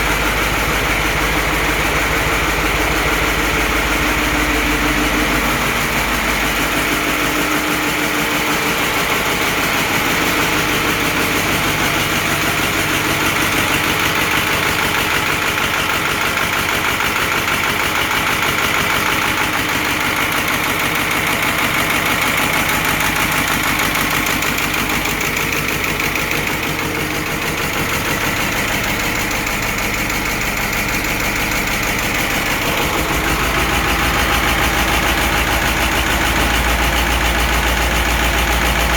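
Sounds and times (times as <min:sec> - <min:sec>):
diesel tractor engine idling: 0:00.0 - 0:38.9.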